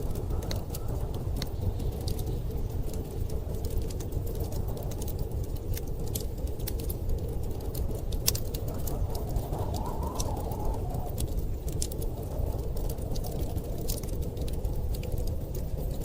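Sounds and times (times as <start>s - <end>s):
low rumble of storm wind: 0.0s - 16.0s
wood fire crackling: 0.0s - 16.0s.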